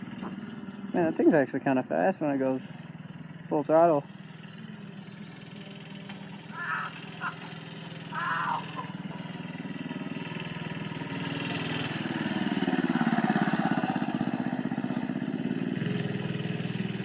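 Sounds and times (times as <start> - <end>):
minibike engine revving: 0.0 - 17.0.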